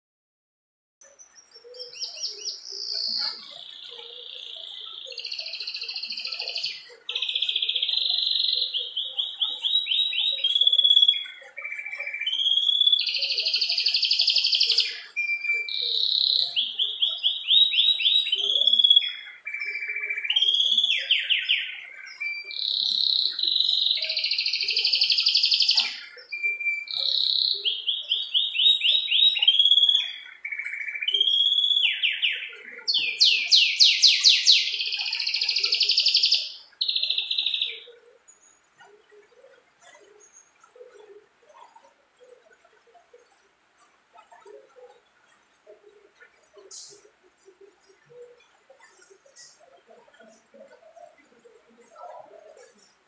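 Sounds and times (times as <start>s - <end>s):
canary singing: 1.0s - 53.0s.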